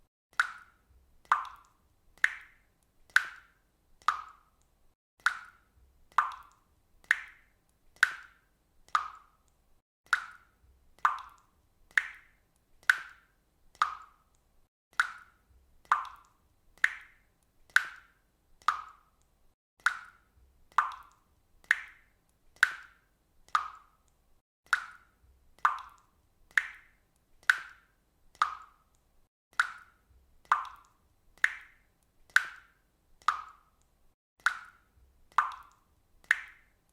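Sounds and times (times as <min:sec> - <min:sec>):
water drops falling into water: 0:00.3 - 0:36.9.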